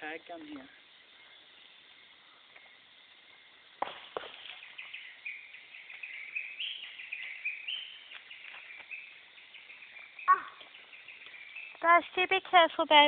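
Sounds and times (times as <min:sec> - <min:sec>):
birds chirping: 0:00.4 - 0:13.0.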